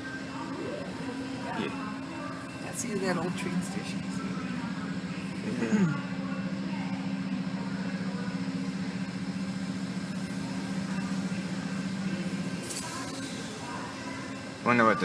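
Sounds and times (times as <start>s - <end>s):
engine idling: 2.7s - 15.0s.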